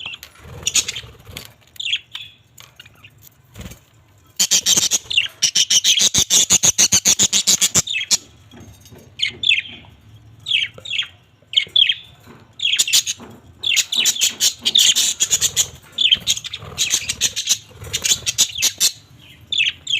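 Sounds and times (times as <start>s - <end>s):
parrots chirping: 0.0s - 19.9s.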